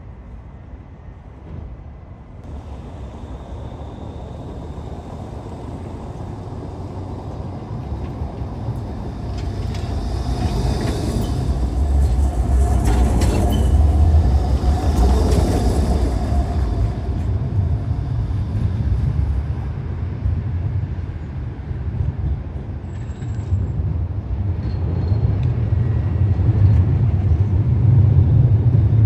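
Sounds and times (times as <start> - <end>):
tram rumble and wheel noise: 0.0 - 29.0.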